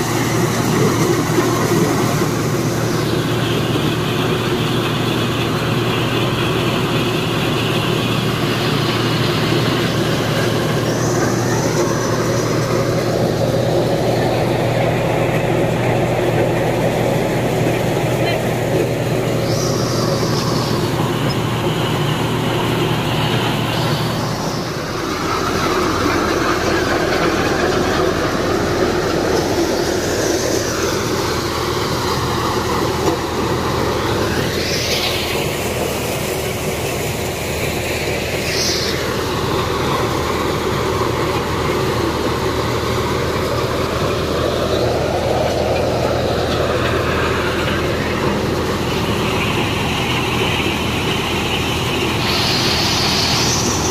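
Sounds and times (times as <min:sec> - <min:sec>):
maize thresher drone and hiss: 0:00.0 - 0:53.9
tractor diesel engine running: 0:00.0 - 0:53.9.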